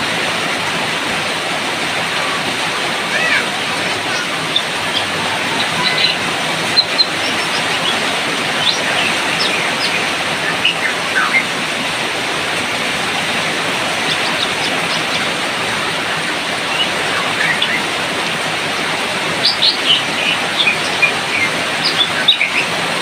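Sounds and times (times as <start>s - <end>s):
loud rain: 0.0s - 23.0s.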